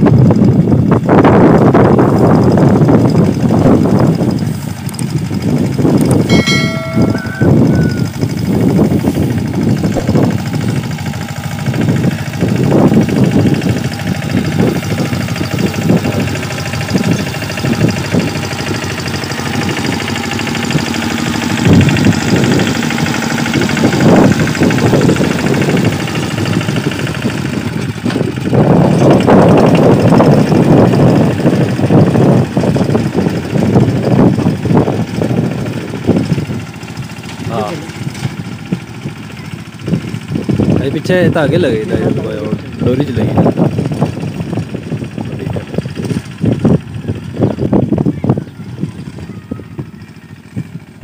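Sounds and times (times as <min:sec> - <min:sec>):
reaper-binder engine running: 0:00.0 - 0:51.0.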